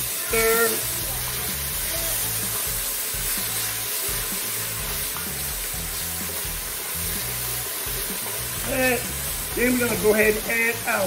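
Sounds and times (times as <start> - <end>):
background music with bass line: 0.0 - 11.0
paste sizzling in a pot: 0.0 - 11.0.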